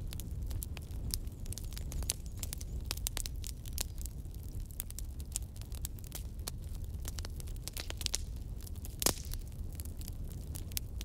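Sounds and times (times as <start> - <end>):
low rush of flames: 0.0 - 11.0
wood crackling and popping: 0.0 - 11.0.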